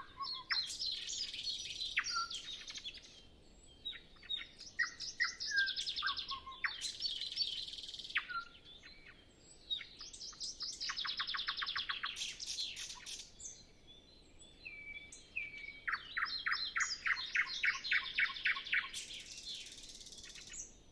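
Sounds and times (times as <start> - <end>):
nightingale singing: 0.0 - 20.9.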